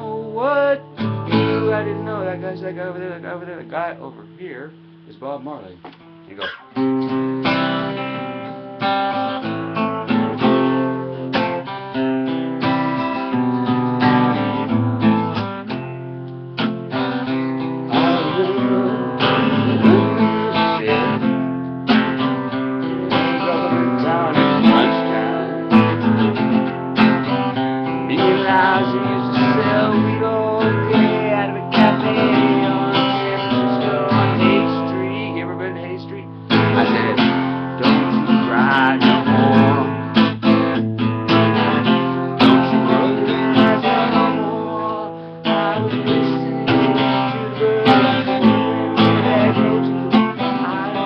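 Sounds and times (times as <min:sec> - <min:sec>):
acoustic guitar strumming: 0:00.0 - 0:51.0.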